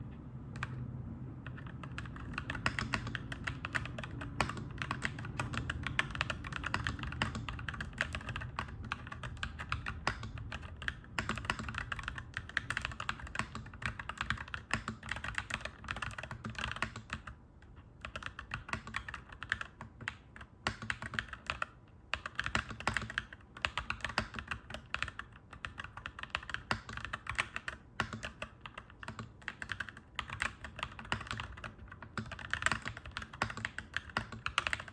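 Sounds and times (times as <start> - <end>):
mechanical keyboard typing: 0.6 - 0.8, 1.4 - 34.9.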